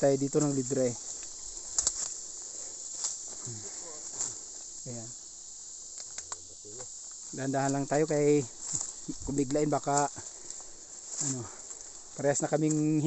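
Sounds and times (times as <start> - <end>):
footsteps on dry leaves: 0.0 - 6.1, 6.9 - 13.0
insects chirring: 0.0 - 13.0.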